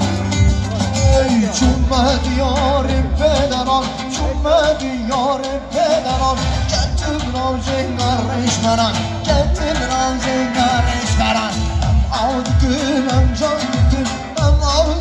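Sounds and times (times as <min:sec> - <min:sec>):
folk instrumental accompaniment: 0:00.0 - 0:15.0
person singing: 0:00.0 - 0:15.0.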